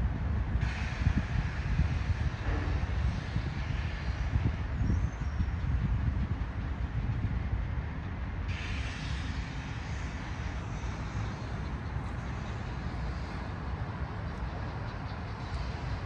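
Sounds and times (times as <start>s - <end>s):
distant city traffic: 0.0s - 16.0s
construction machinery: 0.1s - 16.0s.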